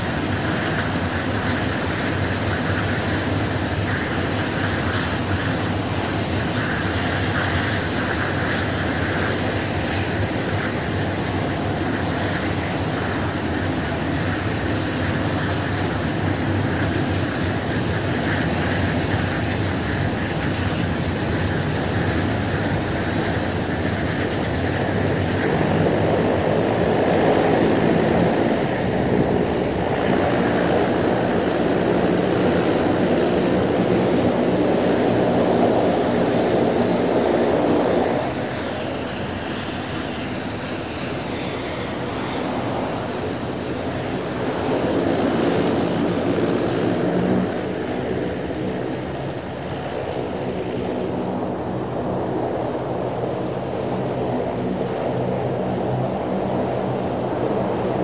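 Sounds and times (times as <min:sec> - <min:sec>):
turboprop propeller drone: 0:00.0 - 0:58.0.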